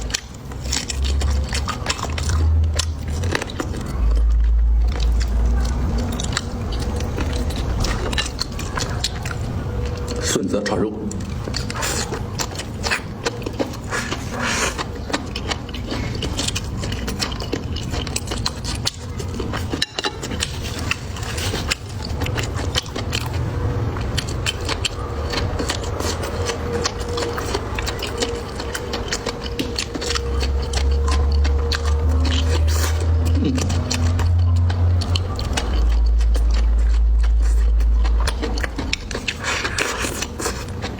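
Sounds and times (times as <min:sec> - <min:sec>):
person chewing and crunching: 0:00.0 - 0:40.9
steady low hum: 0:00.0 - 0:40.9.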